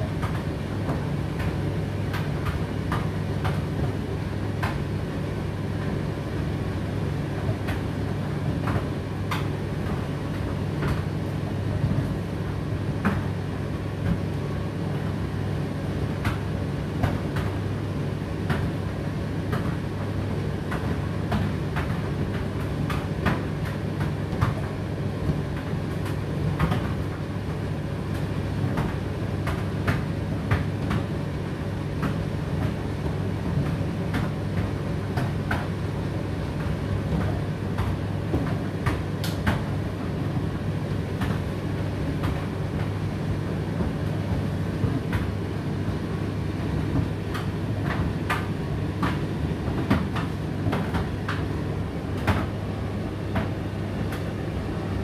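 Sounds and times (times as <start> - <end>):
tumble dryer motor and fan hum: 0.0 - 55.0.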